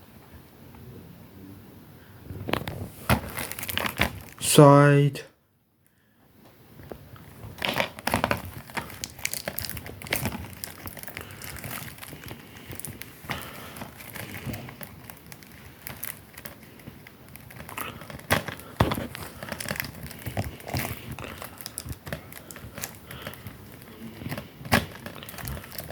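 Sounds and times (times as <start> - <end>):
plastic wrapping crinkling: 2.5 - 4.6, 6.8 - 25.9.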